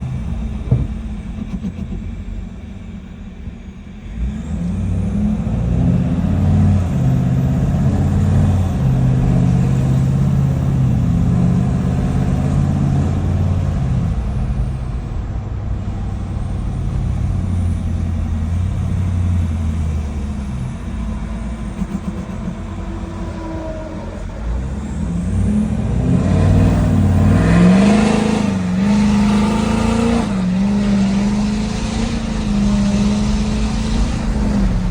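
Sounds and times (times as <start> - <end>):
diesel truck engine under load: 0.0 - 34.9.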